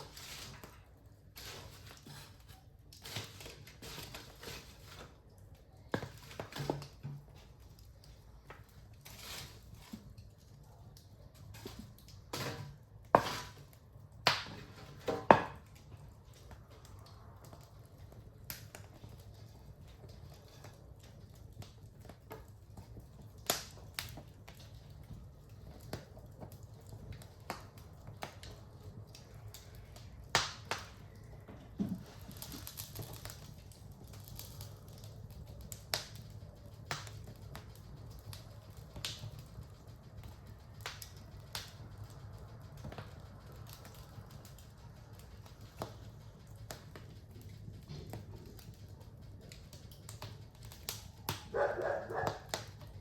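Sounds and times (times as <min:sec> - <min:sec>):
low fire rumble: 0:00.0 - 0:53.0
wood fire crackling and popping: 0:00.0 - 0:53.0.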